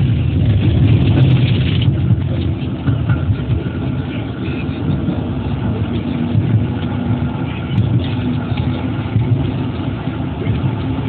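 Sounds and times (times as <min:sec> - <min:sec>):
tram rumbling on tracks: 0:00.0 - 0:11.0.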